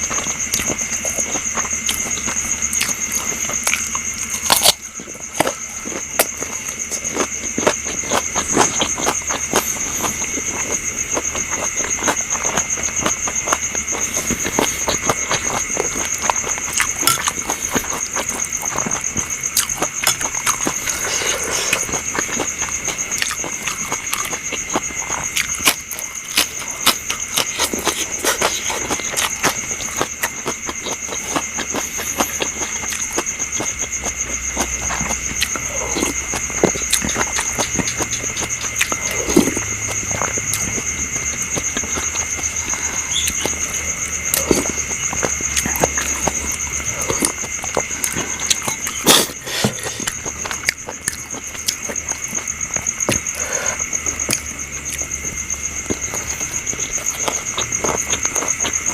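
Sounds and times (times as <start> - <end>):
night insects droning: 0.0 - 58.9
person chewing and eating: 0.0 - 58.9.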